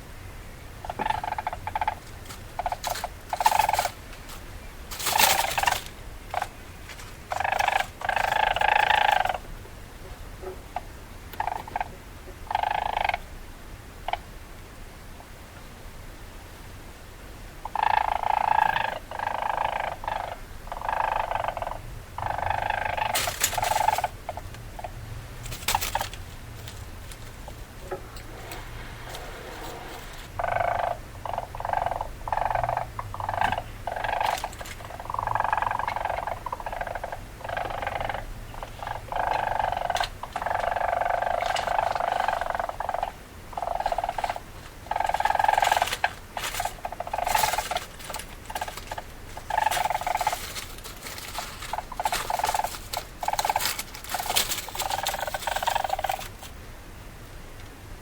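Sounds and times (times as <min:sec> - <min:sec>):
weasel calling in harsh bursts: 0:00.8 - 0:04.0, 0:04.9 - 0:06.6, 0:07.3 - 0:09.5, 0:10.8 - 0:13.2, 0:17.6 - 0:56.5.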